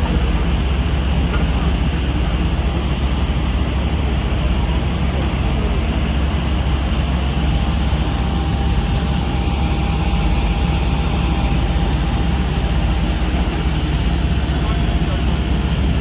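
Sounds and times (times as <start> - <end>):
faint steady whine: 0.0 - 16.0
heavy engine rumbling: 0.0 - 16.0.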